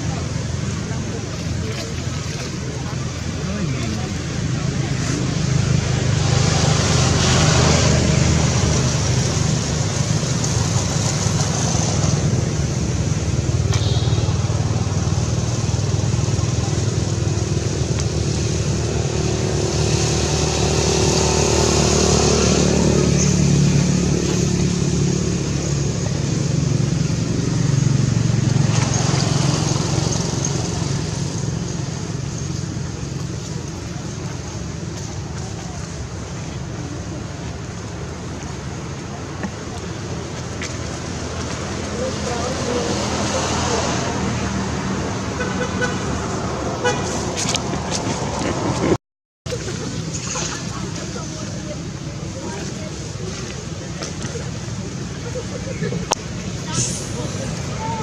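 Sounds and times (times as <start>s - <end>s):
traffic noise: 0.0s - 58.0s
vehicle engines running: 0.0s - 58.0s.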